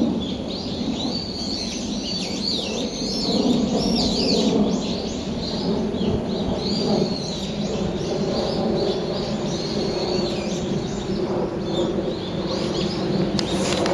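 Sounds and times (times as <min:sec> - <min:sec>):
birds chirping and whistling: 0:00.1 - 0:13.9.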